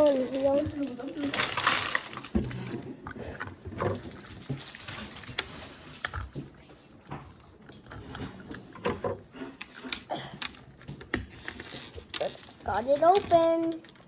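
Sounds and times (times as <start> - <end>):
plastic package clicks and rustles: 0.0 - 8.8, 9.5 - 14.0.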